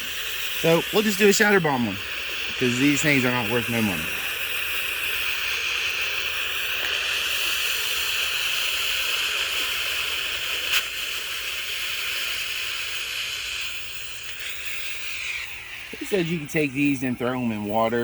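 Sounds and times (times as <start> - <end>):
smoke bomb hissing: 0.0 - 18.0.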